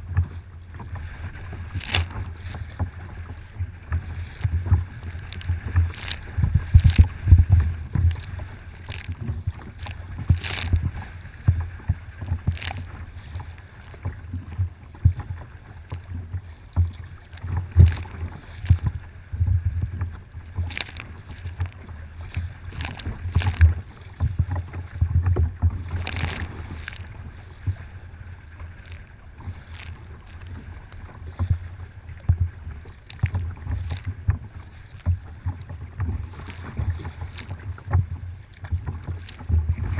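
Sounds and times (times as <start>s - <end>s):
water splashing against kayak: 0.0s - 39.9s
wind buffeting microphone: 0.0s - 39.9s.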